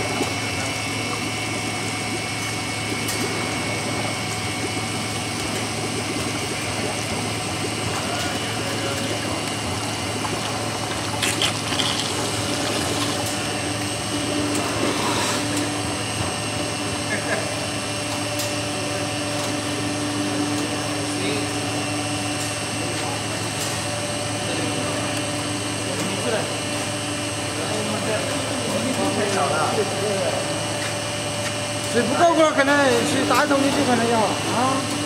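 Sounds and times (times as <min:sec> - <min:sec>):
machine whirring and humming: 0:00.0 - 0:35.0.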